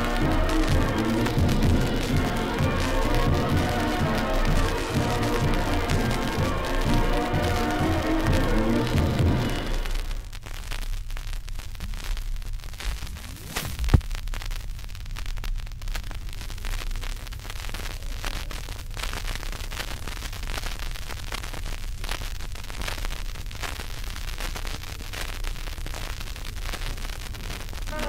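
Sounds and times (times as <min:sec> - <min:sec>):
record surface hiss with crackles: 0:00.0 - 0:28.0.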